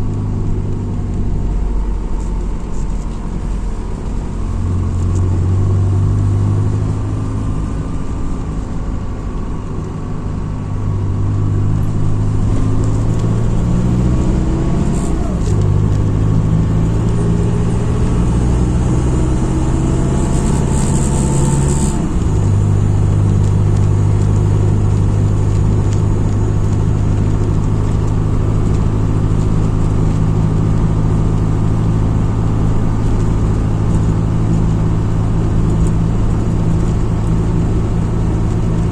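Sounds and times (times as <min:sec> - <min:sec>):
bus diesel engine accelerating: 0:00.0 - 0:38.9.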